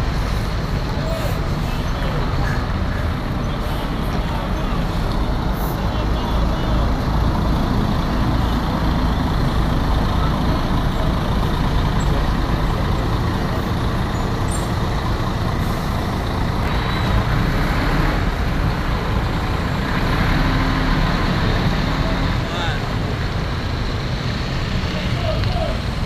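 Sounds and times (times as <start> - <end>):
bus diesel engine rumbling: 0.0 - 26.0.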